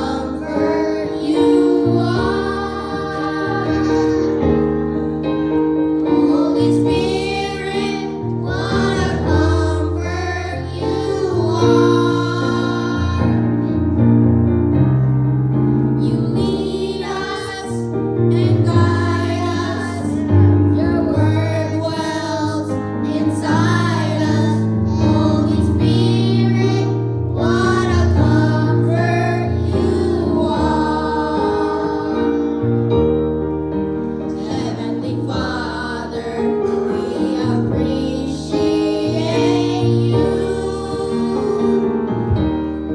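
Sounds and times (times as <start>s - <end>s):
women singing gospel: 0.0s - 5.4s, 6.0s - 13.6s, 16.0s - 32.6s, 34.3s - 42.5s
sustained keyboard chords: 0.0s - 42.9s.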